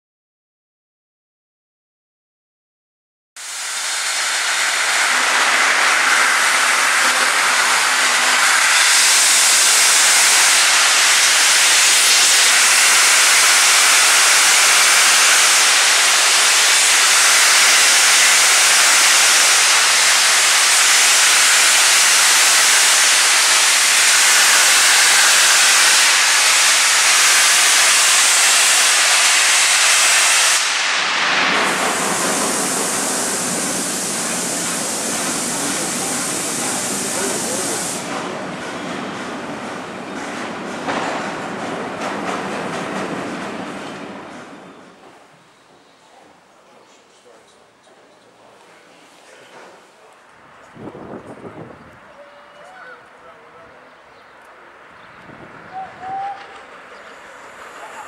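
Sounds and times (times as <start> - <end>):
steam locomotive venting steam: 3.4 - 53.9, 55.2 - 58.0
loud steady steam hiss: 3.4 - 54.5, 55.2 - 58.0.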